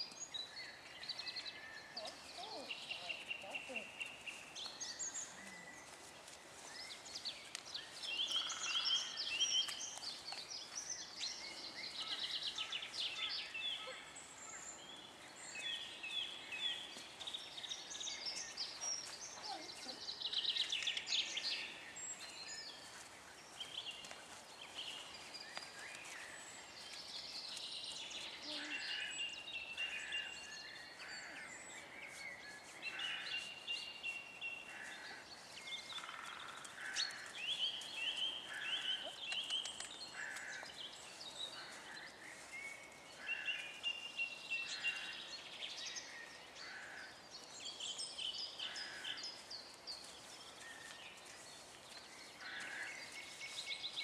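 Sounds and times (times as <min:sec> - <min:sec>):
birds chirping and singing: 0:00.0 - 0:54.0
faint outdoor hiss: 0:00.0 - 0:54.0.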